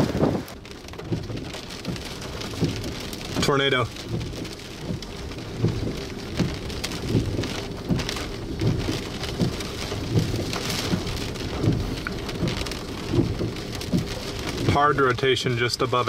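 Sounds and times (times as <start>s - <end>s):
soft low thump: 0.0s - 14.7s
rain falling: 0.0s - 16.0s.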